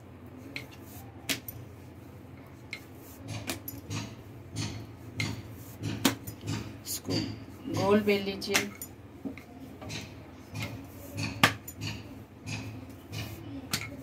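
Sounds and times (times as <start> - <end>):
rolling pin rolling dough: 0.0 - 14.0.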